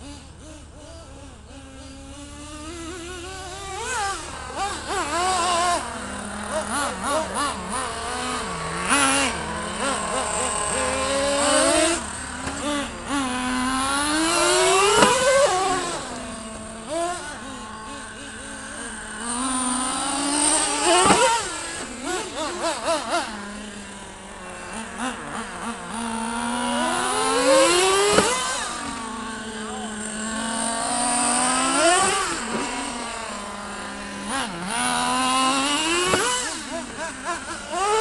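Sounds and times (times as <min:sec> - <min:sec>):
small nitro engines revving: 0:00.0 - 0:38.0.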